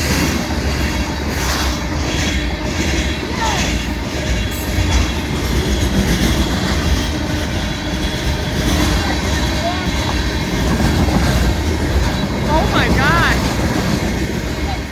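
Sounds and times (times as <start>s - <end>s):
freight train wheels rumbling: 0.0s - 14.9s.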